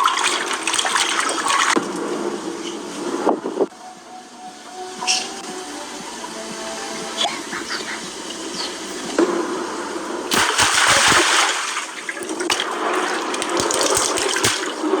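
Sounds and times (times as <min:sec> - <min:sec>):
rushing splashing water: 0:00.0 - 0:03.3, 0:05.0 - 0:15.0.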